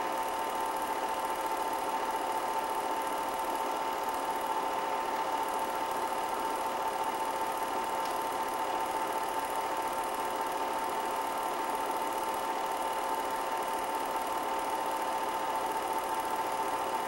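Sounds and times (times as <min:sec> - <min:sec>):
film projector whirring and clattering: 0:00.0 - 0:17.0.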